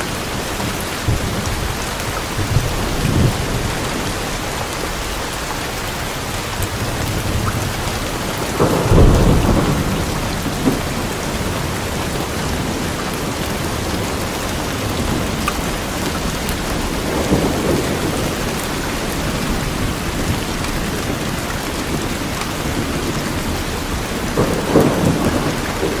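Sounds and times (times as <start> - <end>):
rain falling on trees: 0.0 - 26.0.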